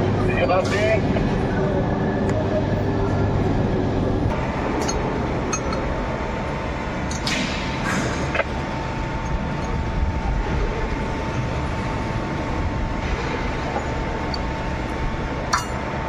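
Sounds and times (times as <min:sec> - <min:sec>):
high whine: 0:00.0 - 0:16.0
workshop machinery rumble: 0:00.0 - 0:16.0.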